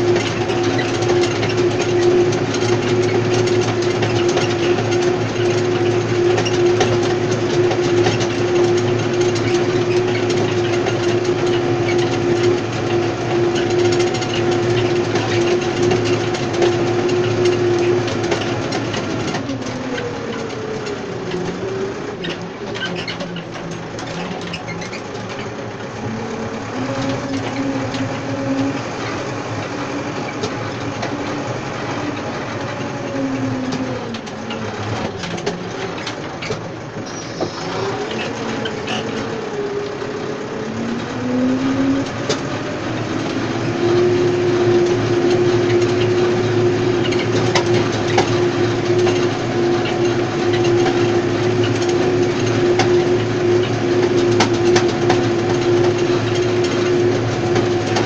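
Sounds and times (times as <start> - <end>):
cultivator tines clattering: 0.0 - 58.0
tractor engine running: 0.0 - 58.0.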